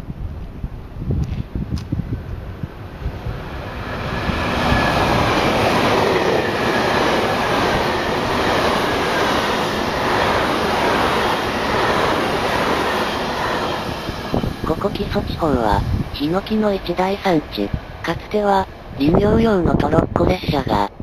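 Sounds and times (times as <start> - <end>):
train passing at speed: 0.3 - 20.9.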